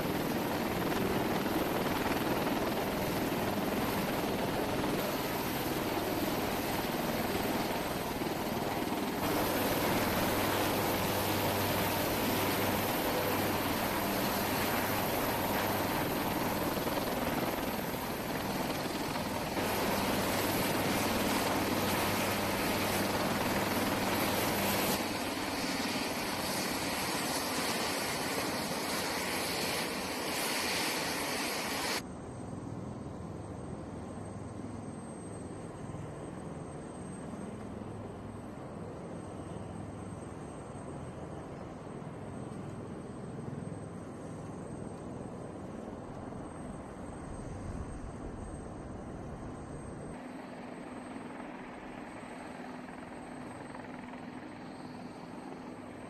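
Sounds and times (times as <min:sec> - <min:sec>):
helicopter rotor and turbine noise: 0:00.0 - 0:56.0.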